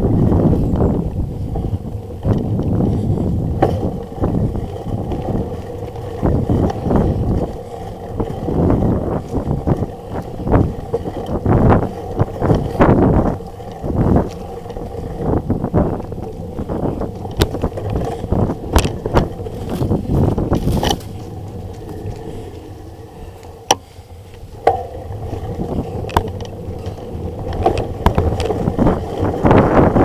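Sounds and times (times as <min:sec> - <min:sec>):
bike knocks and rattles: 0:00.0 - 0:30.0
wind rumbling on microphone: 0:00.0 - 0:30.0.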